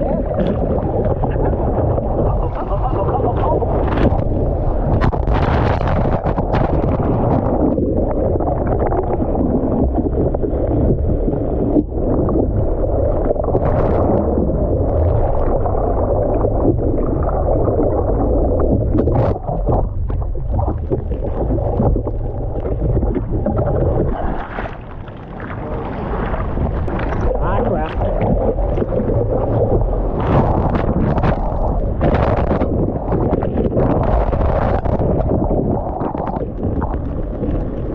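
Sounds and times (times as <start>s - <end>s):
water churning: 0.0s - 37.9s
wind buffeting microphone: 0.0s - 37.9s.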